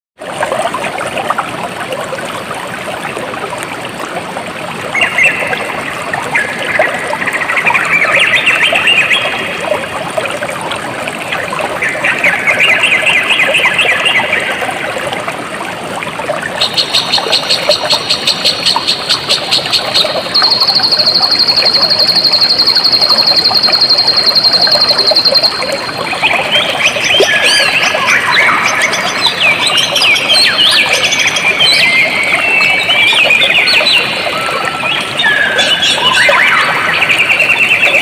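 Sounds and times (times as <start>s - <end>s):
water trickling: 0.2s - 38.0s.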